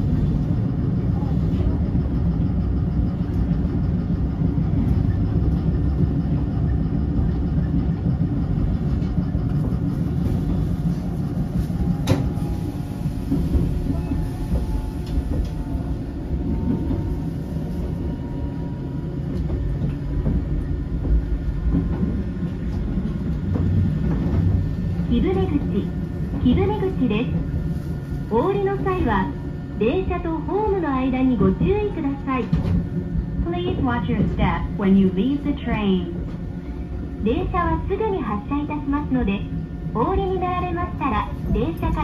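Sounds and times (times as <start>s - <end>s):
train wheels rumbling: 0.0s - 42.0s.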